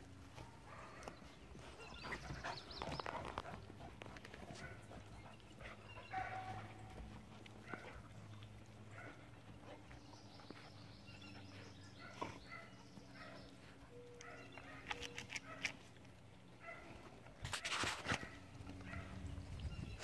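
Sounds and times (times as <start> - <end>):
puppies scuffling in grass: 0.0 - 20.0.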